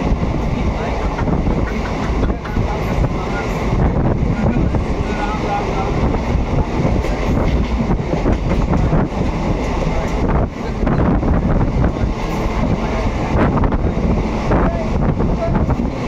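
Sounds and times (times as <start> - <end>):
train coaches rumbling: 0.0 - 16.0.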